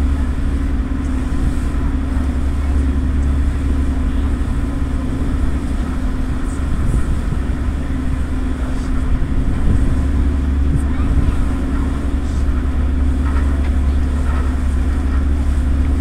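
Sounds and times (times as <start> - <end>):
constant hum: 0.0 - 16.0
ferry engines droning: 0.0 - 16.0.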